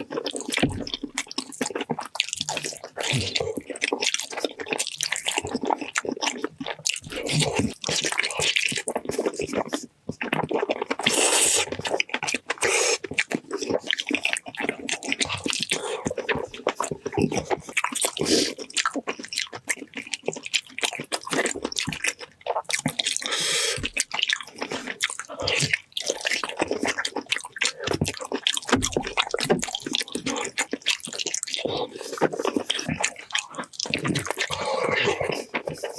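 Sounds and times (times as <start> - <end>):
sticky mouth noises: 0.0 - 35.9
wet chewing: 0.0 - 35.9.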